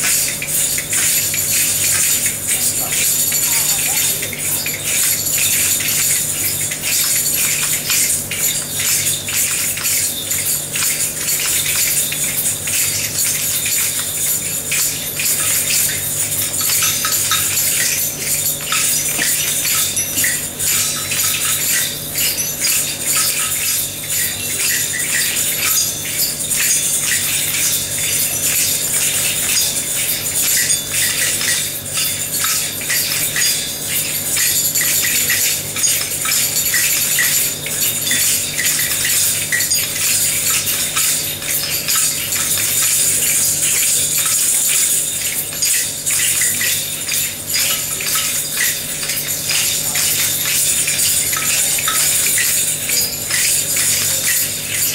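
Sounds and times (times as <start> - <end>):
hand percussion jingling and rattling: 0.0 - 54.9.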